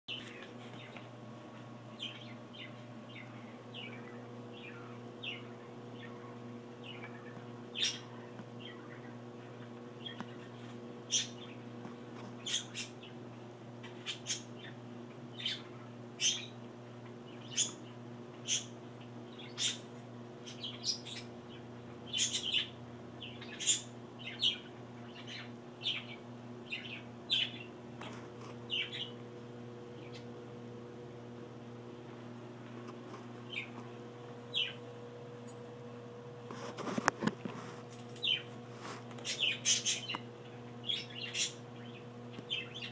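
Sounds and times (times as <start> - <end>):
low electrical hum: 0.1 - 42.9.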